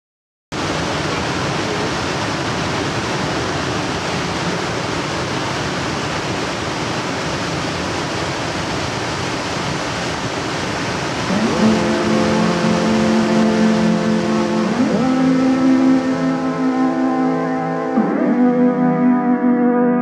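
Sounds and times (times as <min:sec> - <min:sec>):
waterfall pouring into pool: 0:00.6 - 0:17.0.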